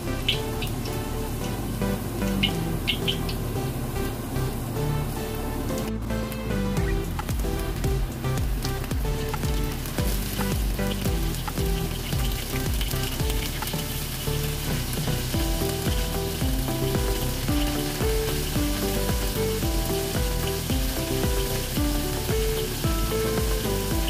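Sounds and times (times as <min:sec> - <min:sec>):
background music: 0:00.0 - 0:24.0
fish frying in hot oil: 0:04.7 - 0:24.0.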